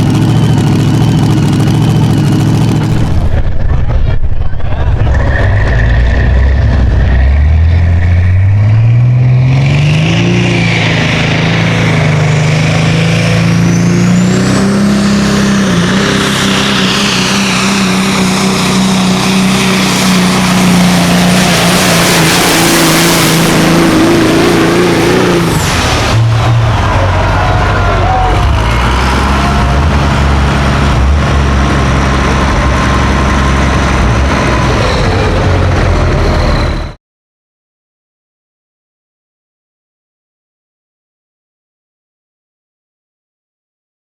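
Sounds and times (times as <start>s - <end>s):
truck diesel engine revving: 0.0s - 37.0s.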